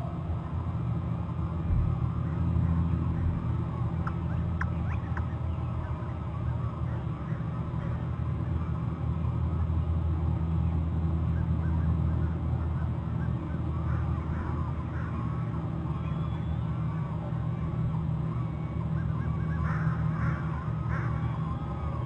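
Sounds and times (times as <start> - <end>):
distant birds calling: 0.0 - 22.0
steady low rumble: 0.0 - 22.0.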